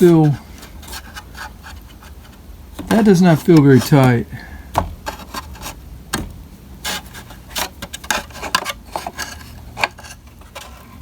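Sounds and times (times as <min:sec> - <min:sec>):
hands handling plastic parts: 0:00.0 - 0:11.0.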